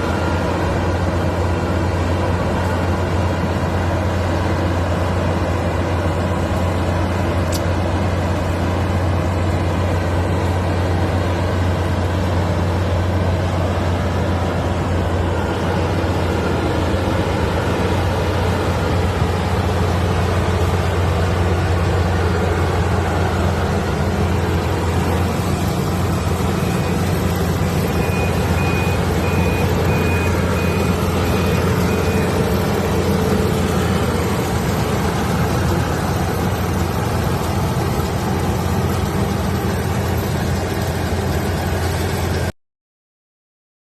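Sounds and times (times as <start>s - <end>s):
harvester engine drone: 0.0s - 42.6s.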